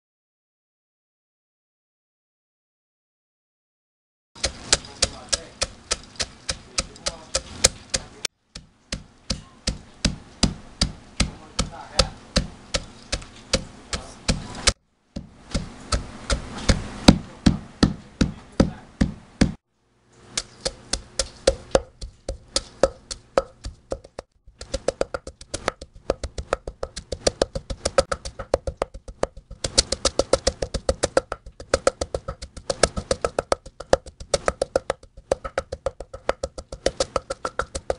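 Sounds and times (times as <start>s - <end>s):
pestle pounding in a mortar: 4.4s - 19.6s, 20.4s - 37.9s.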